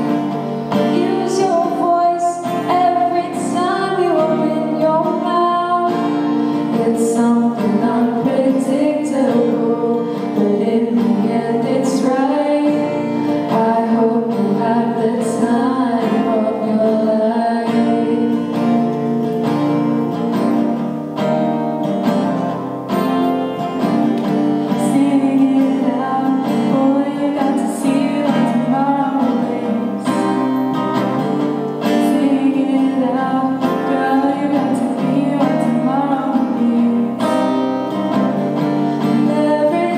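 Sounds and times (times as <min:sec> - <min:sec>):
woman singing: 0:00.0 - 0:19.0, 0:24.7 - 0:30.6, 0:31.8 - 0:38.4, 0:39.0 - 0:39.9
acoustic guitar: 0:00.0 - 0:39.9.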